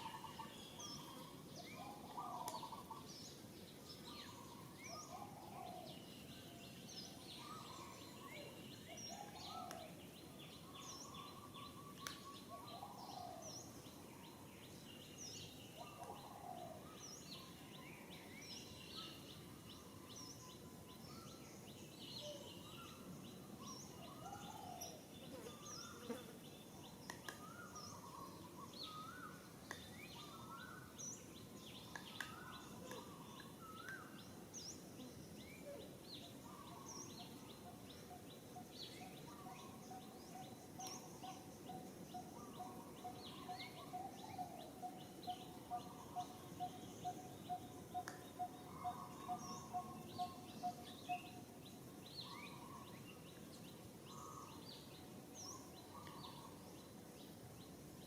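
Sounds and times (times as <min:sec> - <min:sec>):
birds chirping: 0:00.0 - 0:57.8
background hiss: 0:00.0 - 0:58.0.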